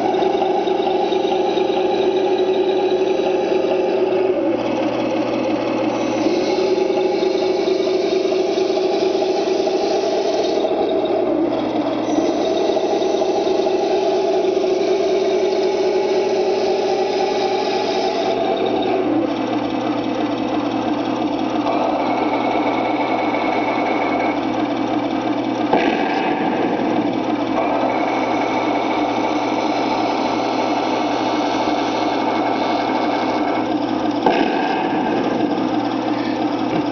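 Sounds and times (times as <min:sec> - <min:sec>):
simulated diesel engine running: 0:00.0 - 0:36.9.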